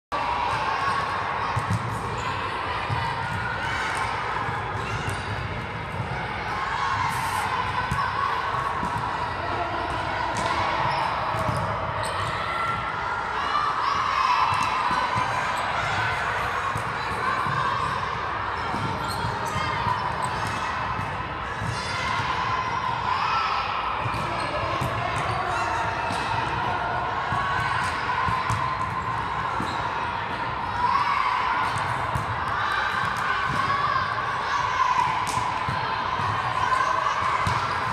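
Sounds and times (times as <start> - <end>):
background murmur: 0.1 - 37.9
echoing gym noise: 0.1 - 37.9
players' voices: 0.1 - 37.9.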